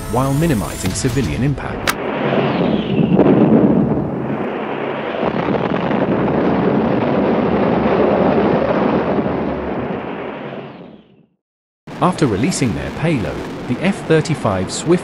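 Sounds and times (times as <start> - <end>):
bomb explosions rumbling: 1.6 - 11.1, 11.9 - 15.0.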